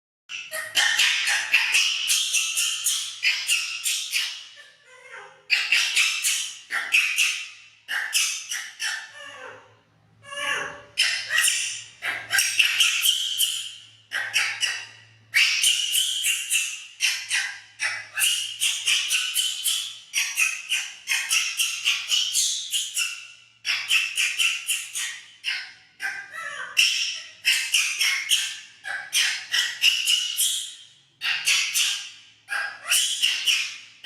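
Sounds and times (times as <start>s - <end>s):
baby monkey screaming: 0.3s - 33.9s.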